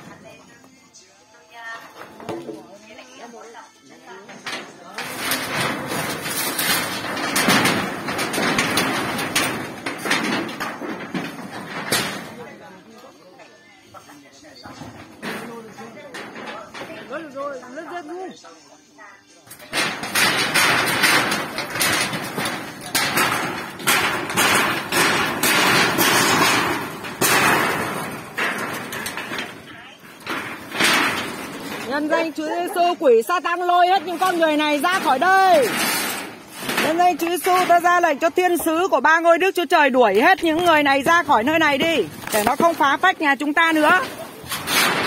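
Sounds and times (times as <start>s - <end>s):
bamboo poles knocking and clattering: 1.9s - 2.8s, 4.2s - 12.6s, 14.6s - 17.4s, 19.5s - 45.0s.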